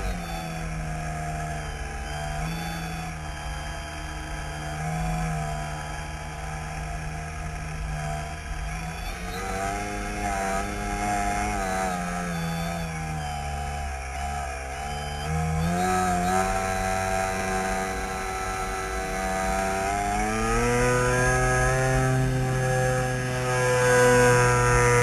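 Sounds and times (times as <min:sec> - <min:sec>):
model airplane engine running: 0:00.0 - 0:25.0.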